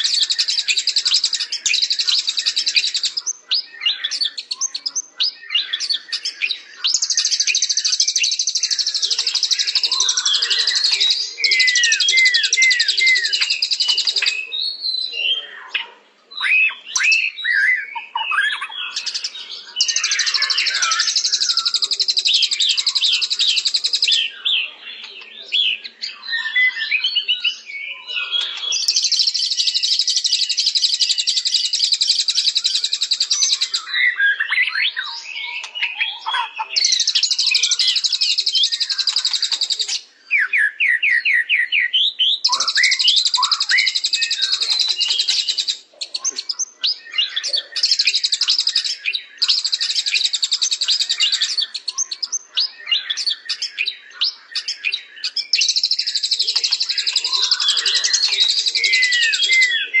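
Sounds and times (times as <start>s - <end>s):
songbird singing trills: 0.0s - 60.0s.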